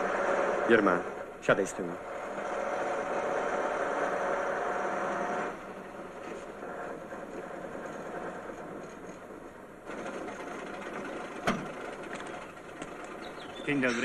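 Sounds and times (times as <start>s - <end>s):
fast mechanical ticking: 0.0s - 14.0s
vehicle engine running slowly: 0.0s - 14.0s.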